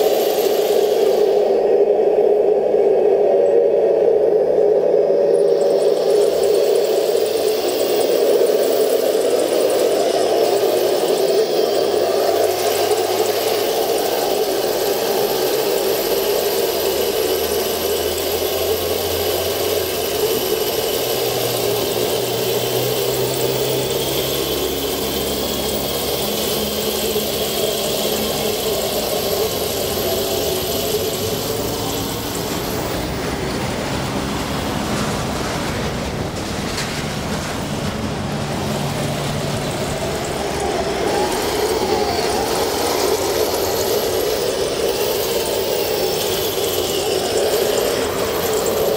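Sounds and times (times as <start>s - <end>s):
thin high whine: 0.0s - 48.9s
electric motors whirring: 5.4s - 35.3s, 38.3s - 48.9s.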